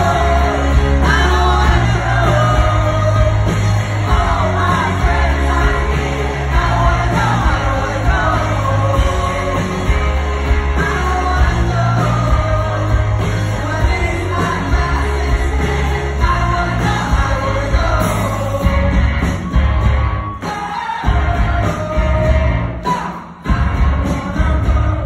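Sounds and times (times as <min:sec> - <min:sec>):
man singing: 0:00.0 - 0:19.3, 0:20.4 - 0:25.0
drum kit: 0:00.0 - 0:25.0
piano: 0:00.0 - 0:25.0.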